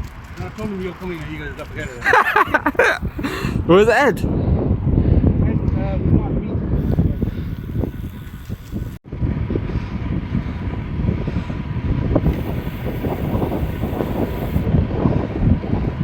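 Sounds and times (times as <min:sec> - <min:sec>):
road rumble: 0:00.0 - 0:05.7, 0:06.7 - 0:16.0
wind buffeting microphone: 0:00.0 - 0:16.0.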